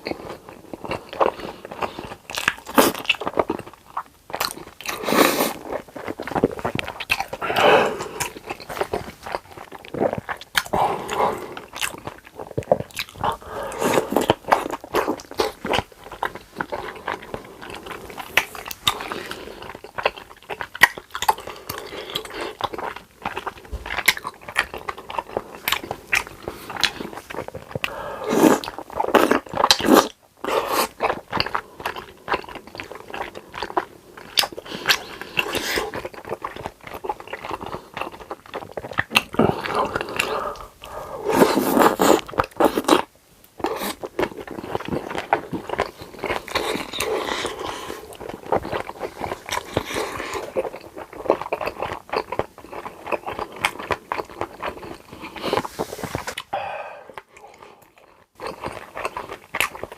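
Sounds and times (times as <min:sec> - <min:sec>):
person chewing crispy food: 0:00.0 - 0:59.9.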